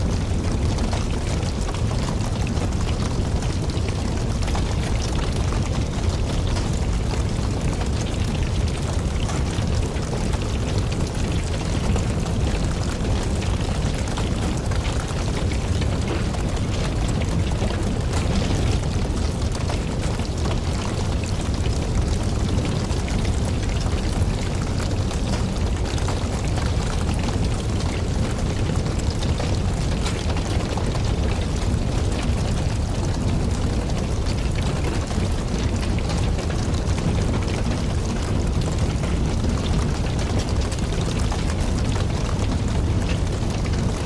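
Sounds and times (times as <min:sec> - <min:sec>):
logs crackling and popping: 0:00.0 - 0:44.0
low rumble of flames: 0:00.0 - 0:44.0.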